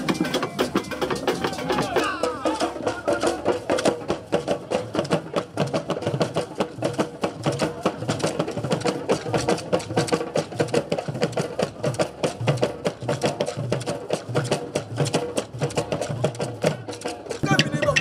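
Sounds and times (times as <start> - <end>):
hand drums playing fast rhythm: 0.0 - 18.0.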